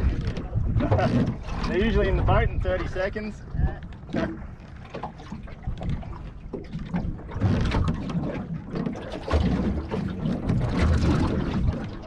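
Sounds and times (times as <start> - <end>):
water lapping at boat hull: 0.0 - 12.0
wind buffeting microphone: 0.0 - 12.0.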